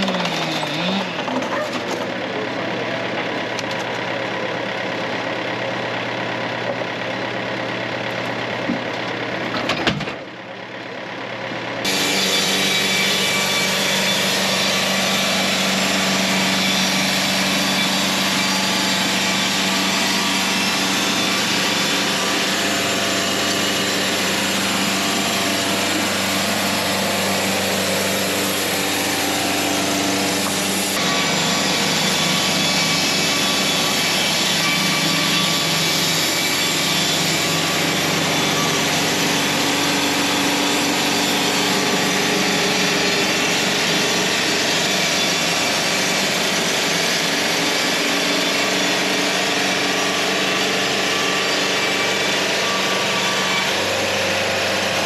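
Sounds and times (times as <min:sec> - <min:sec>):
band blade sawing log: 0:00.0 - 0:01.9, 0:11.8 - 0:55.0
bandsaw mill running: 0:00.0 - 0:09.5, 0:10.2 - 0:55.0.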